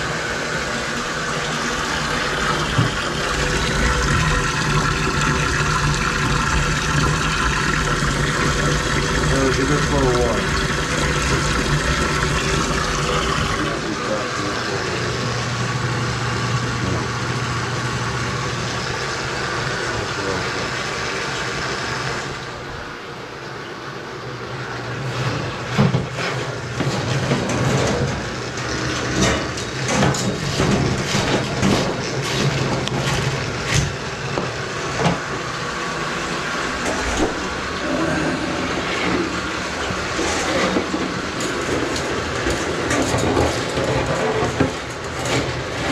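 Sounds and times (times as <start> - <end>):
water running into a drain: 0.0 - 23.4, 24.5 - 45.9
drain-cleaning machine running: 0.0 - 45.9.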